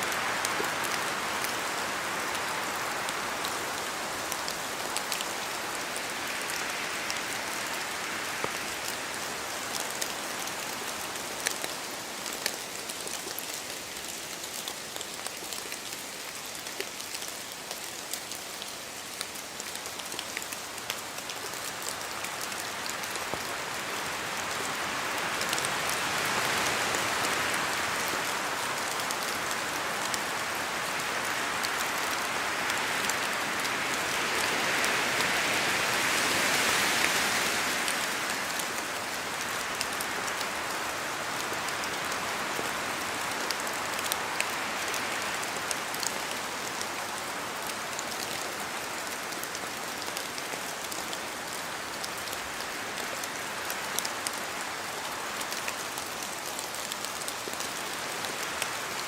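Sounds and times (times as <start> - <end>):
rain falling on trees: 0.0 - 59.0
wind rushing through trees: 0.0 - 59.0.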